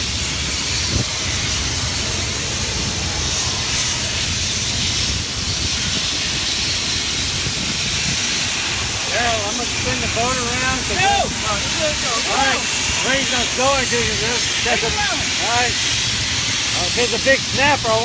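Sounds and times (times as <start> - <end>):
water: 0.0 - 18.0
wind: 0.0 - 18.0.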